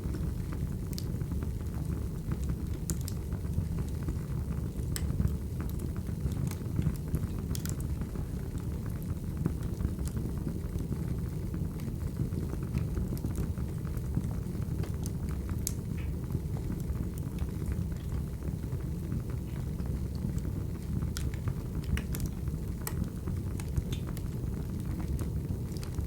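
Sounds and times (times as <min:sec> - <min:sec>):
low rumble of flames: 0:00.0 - 0:26.0
wood fire snapping and popping: 0:00.0 - 0:26.0.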